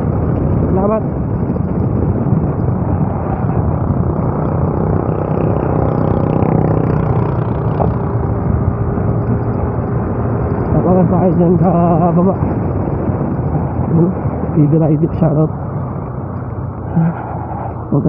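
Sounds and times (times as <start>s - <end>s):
motorcycle engine drone: 0.0s - 18.0s
wind and road rush: 0.0s - 18.0s.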